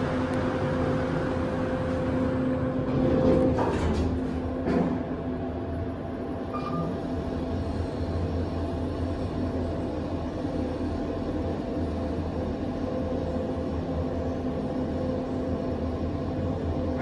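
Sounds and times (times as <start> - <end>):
constant humming tones: 0.0 - 17.0
elevator hum and rumble: 0.0 - 17.0.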